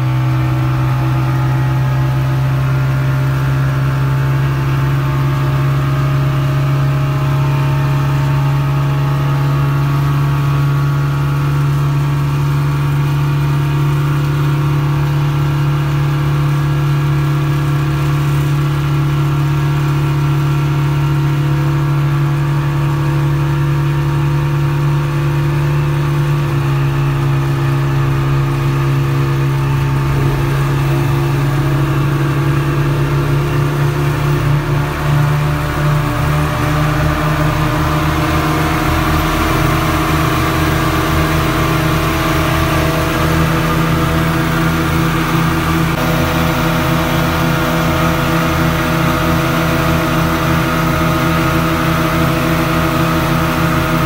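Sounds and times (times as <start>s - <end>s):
outboard motors running: 0.0s - 54.0s
rushing boat wake: 0.0s - 54.0s.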